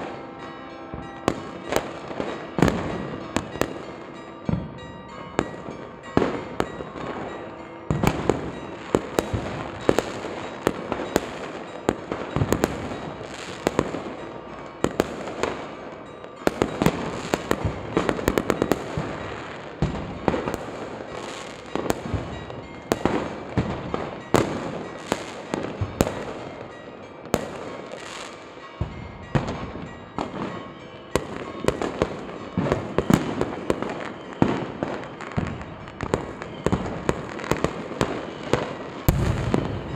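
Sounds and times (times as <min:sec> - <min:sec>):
fireworks and firecrackers banging: 0:00.9 - 0:39.9.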